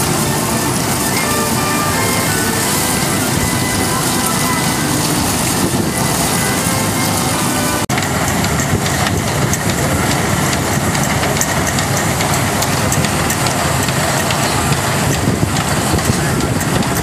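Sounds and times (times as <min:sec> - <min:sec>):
steam engine driving thresher: 0:00.0 - 0:17.0.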